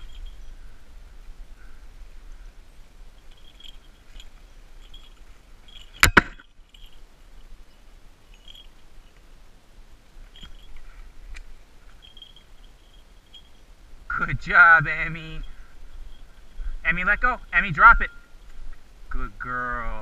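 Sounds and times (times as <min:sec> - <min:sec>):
faint rustling: 0:00.0 - 0:19.2.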